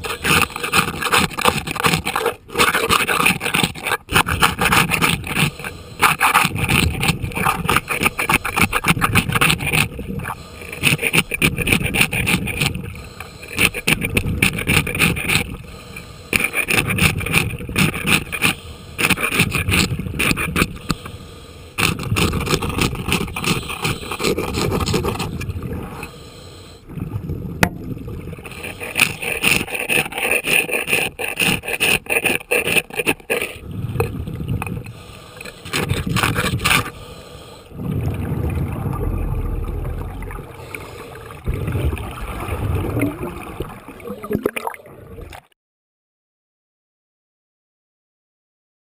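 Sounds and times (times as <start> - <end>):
scraping barnacles underwater: 0.0 - 45.5.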